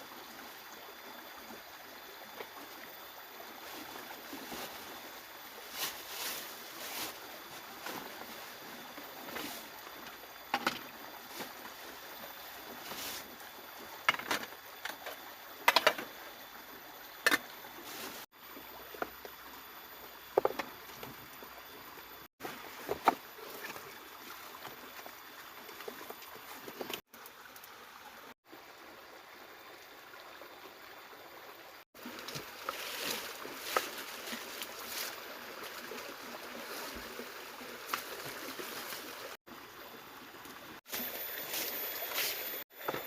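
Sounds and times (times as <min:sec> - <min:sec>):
rushing water: 0:00.0 - 0:42.8.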